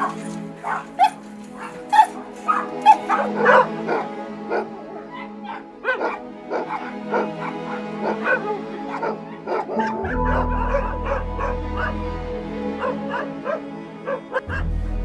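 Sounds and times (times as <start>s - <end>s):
dogs barking and yelping: 0.0s - 14.7s
background music: 0.0s - 15.0s.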